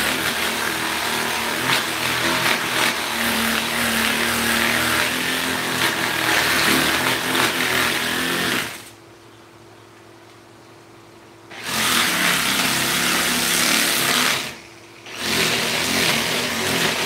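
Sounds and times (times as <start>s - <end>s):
power tool grinding: 0.0s - 9.0s, 11.5s - 17.0s
faint steady hum: 0.0s - 17.0s.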